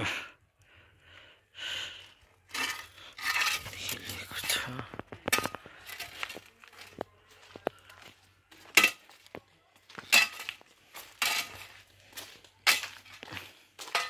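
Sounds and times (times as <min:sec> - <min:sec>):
footsteps crunching on gravel: 0:02.5 - 0:14.0.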